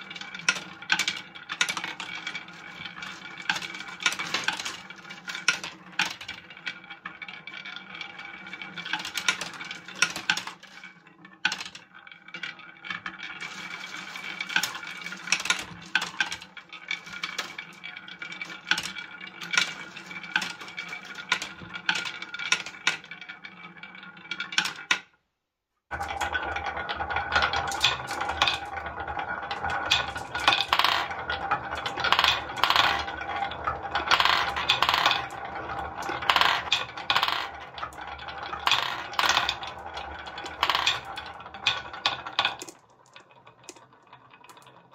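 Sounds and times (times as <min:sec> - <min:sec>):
glass marbles rolling on wood: 0:00.0 - 0:25.0, 0:25.9 - 0:44.9
wooden balls clacking: 0:00.0 - 0:25.1, 0:25.9 - 0:44.9.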